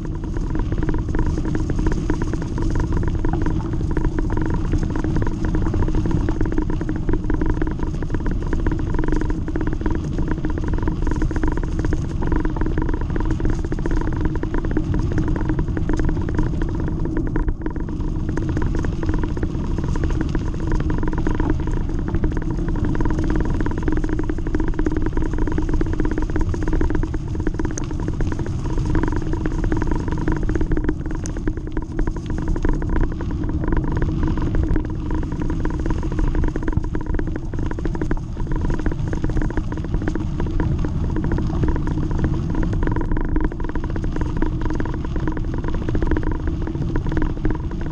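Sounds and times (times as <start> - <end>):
bicycle rolling over gravel: 7.3 - 47.0.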